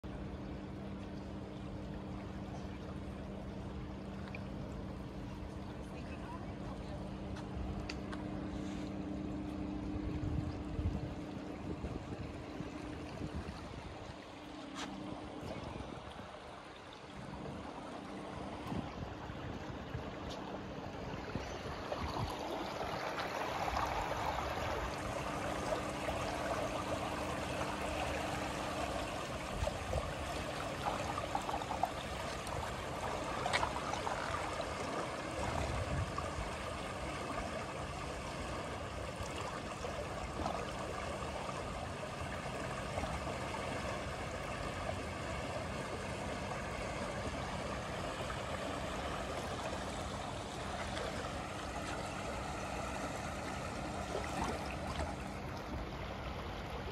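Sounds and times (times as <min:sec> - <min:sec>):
floodwater rushing and lapping: 0:00.0 - 0:56.9.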